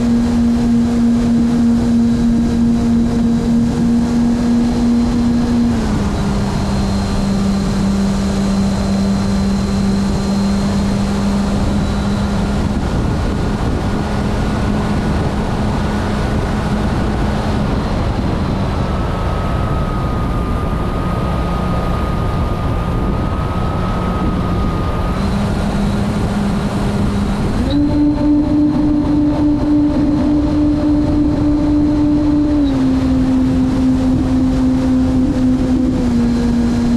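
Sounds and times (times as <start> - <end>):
model airplane motor humming: 0.0 - 36.9
wind rushing across microphone: 0.0 - 36.9.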